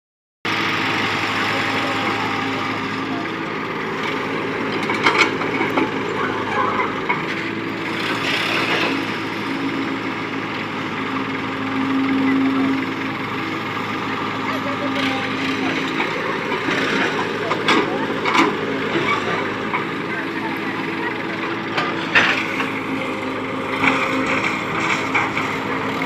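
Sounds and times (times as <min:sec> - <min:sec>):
tractor diesel engine running: 0:00.4 - 0:26.0.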